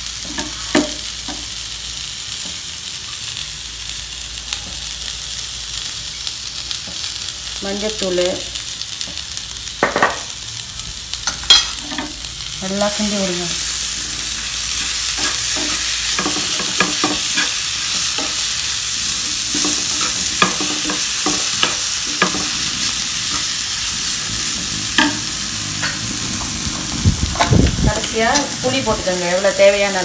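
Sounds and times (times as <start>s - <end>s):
frying sizzle: 0.0s - 30.0s.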